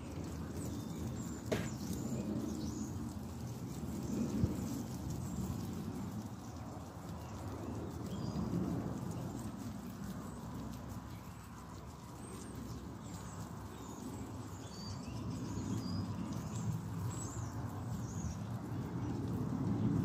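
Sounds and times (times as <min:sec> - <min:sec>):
guinea pigs chewing vegetables: 0:00.0 - 0:20.0.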